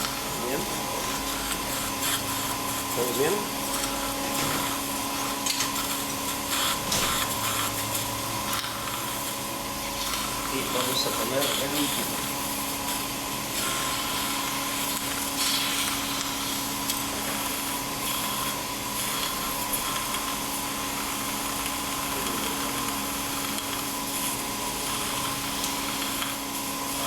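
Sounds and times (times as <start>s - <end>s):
machine hissing and humming: 0.0s - 27.0s.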